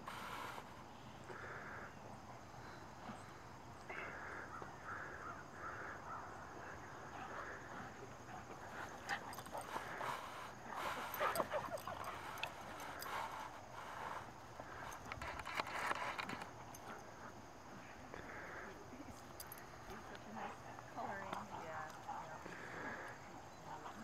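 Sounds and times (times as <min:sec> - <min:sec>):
dogs snuffling and scuffling: 0:02.2 - 0:24.0.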